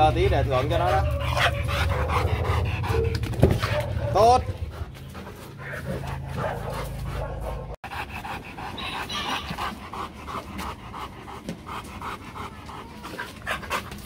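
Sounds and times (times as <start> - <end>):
dog panting quickly: 0.0 - 14.0.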